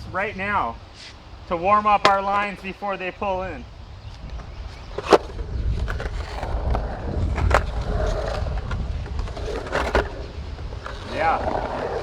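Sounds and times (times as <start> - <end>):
skateboard wheels rolling on concrete: 0.0 - 12.0
skateboard clacks: 1.5 - 12.0.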